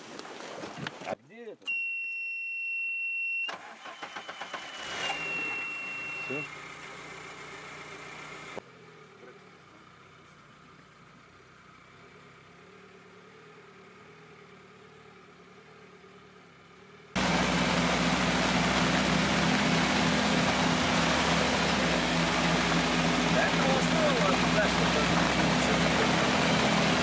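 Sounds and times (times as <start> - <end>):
vehicle engine droning: 4.1 - 27.0.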